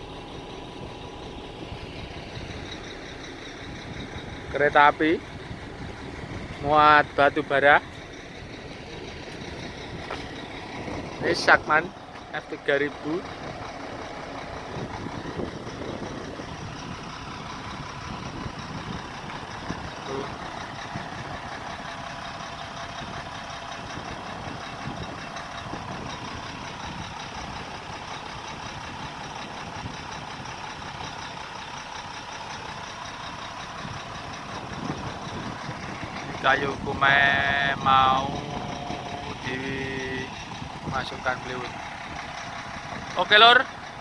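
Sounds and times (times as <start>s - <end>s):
truck engine idling: 0.0s - 44.0s.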